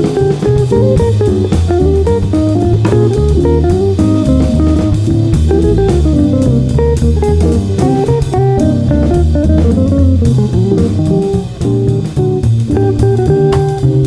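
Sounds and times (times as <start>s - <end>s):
jazzy guitar tune with drums: 0.0s - 14.0s.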